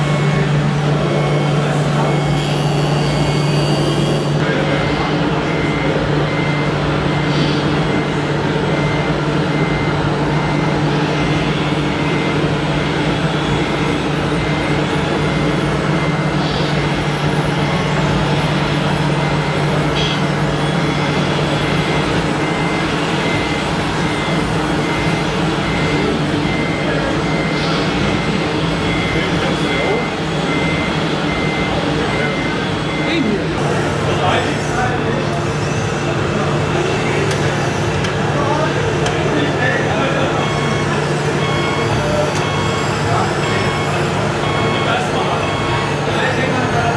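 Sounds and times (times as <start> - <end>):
electronic engine drone: 0.0 - 46.9
reversing beeper: 0.0 - 46.9.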